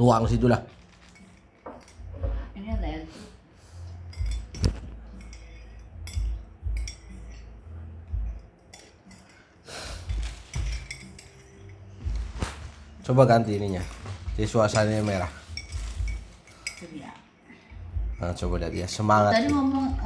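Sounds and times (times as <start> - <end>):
spoon clinking against glass: 1.0 - 2.4, 3.9 - 12.2, 13.5 - 20.0.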